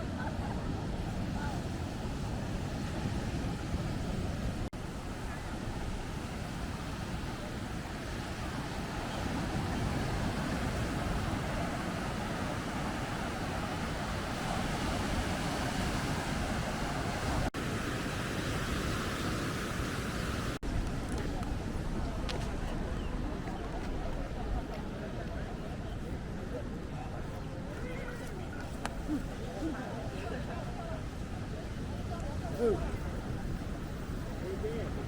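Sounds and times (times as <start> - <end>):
surf washing onto beach: 0.0 - 35.0
wind buffeting microphone: 0.0 - 35.0.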